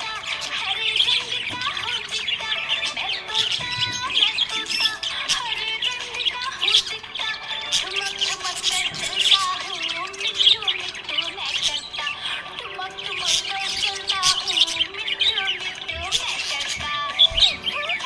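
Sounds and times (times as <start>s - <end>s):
background music: 0.0s - 18.0s
budgies chirping: 0.0s - 18.0s.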